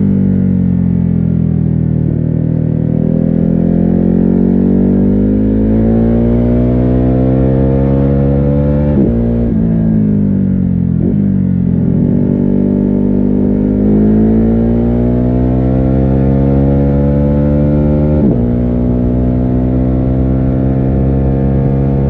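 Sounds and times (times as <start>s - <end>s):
muffled motorcycle engine revving: 0.0s - 22.0s.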